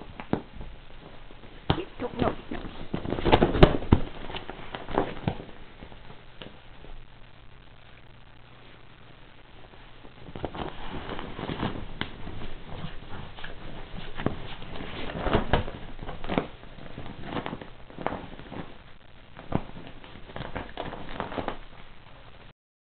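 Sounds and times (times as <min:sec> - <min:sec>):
plastic ball crackling and flapping: 0:00.0 - 0:07.0, 0:09.6 - 0:21.9.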